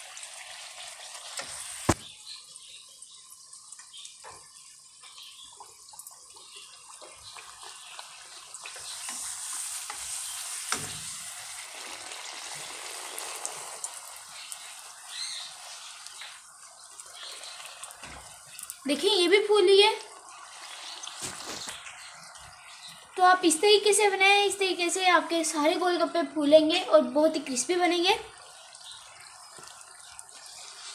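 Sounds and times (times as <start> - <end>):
food sizzling in hot oil: 0.0 - 30.9.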